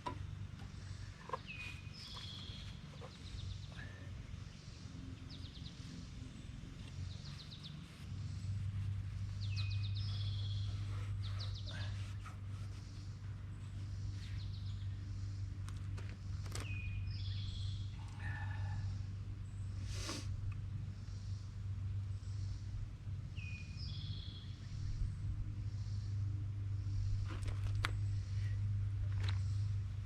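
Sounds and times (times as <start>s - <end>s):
birds chirping in trills: 0.0s - 29.8s
low hum: 0.0s - 30.0s.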